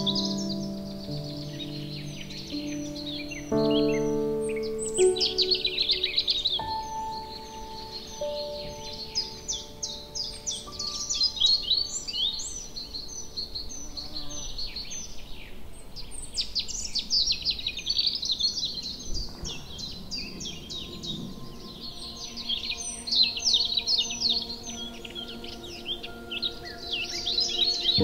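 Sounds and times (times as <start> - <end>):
soft sustained music notes: 0.0 - 17.1, 17.9 - 28.0
small birds chirping: 0.0 - 28.0.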